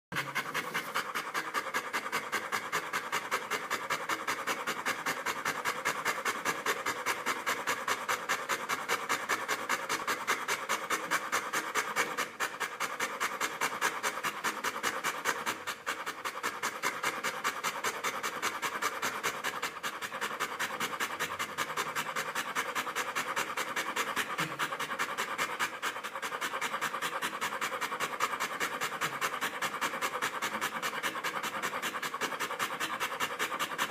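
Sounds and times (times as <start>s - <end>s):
dog panting: 0.1s - 33.9s.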